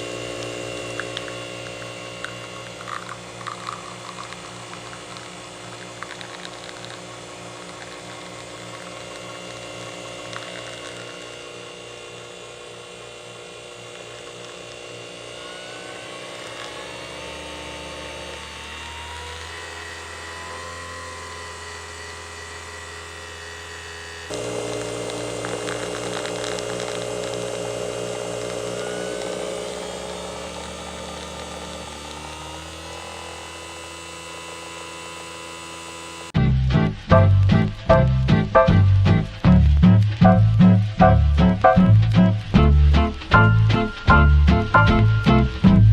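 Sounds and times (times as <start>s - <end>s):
coffee machine pump humming: 0.0s - 45.9s.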